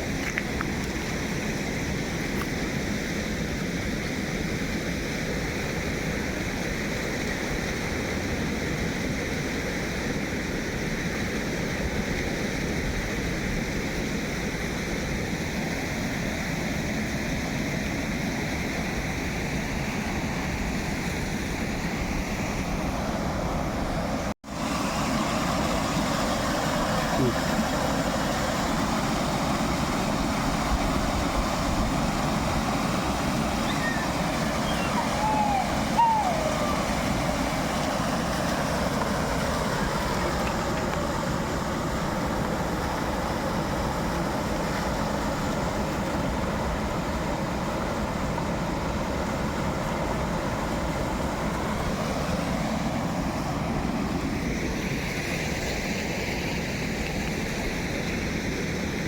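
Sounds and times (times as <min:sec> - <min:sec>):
flowing water rushing: 0:00.0 - 0:59.0.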